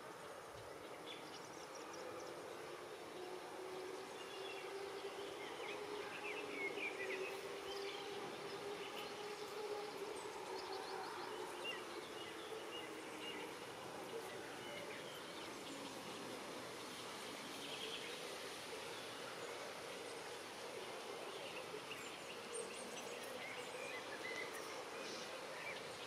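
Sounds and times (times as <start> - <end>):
faint wash of noise: 0.0 - 26.0.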